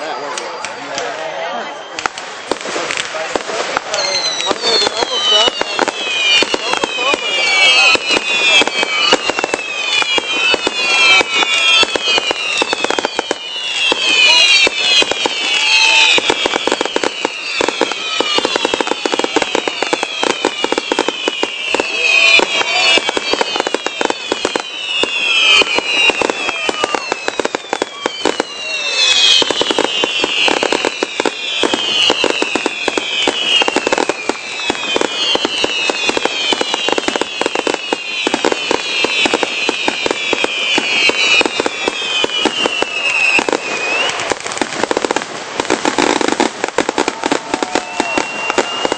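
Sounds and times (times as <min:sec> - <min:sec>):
falling firework whistles: 0:00.0 - 0:48.9
fireworks bangs and crackling: 0:00.0 - 0:48.9.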